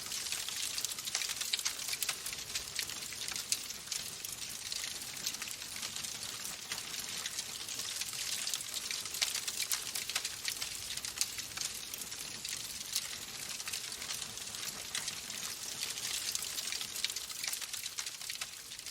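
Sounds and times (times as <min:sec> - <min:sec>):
fire crackling in fireplace: 0:00.0 - 0:18.9.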